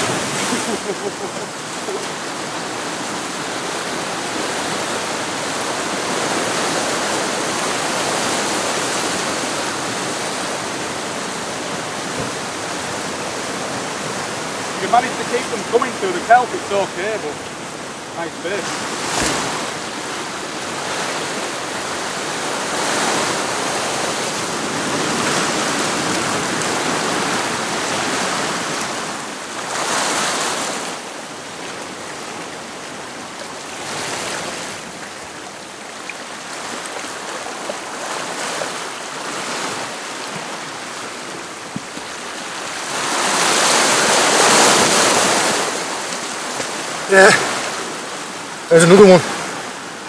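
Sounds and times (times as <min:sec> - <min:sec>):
sea washing against rocks: 0:00.0 - 0:50.0.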